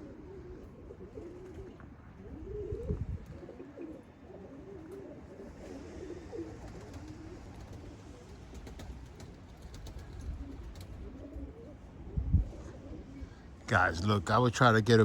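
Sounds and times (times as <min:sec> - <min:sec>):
pigeons cooing: 0:00.0 - 0:14.1.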